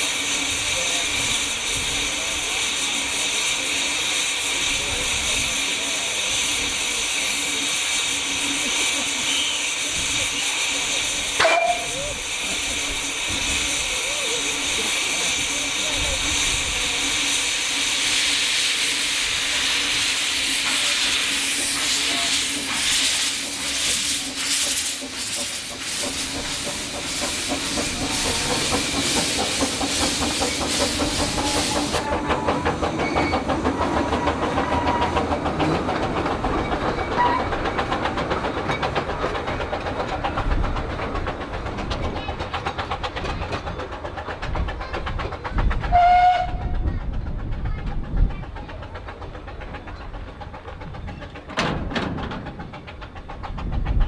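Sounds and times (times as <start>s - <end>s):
steam hissing from locomotive: 0.0s - 51.5s
steam locomotive chuffing: 0.0s - 54.0s
train wheels clicking over rails: 0.0s - 54.0s.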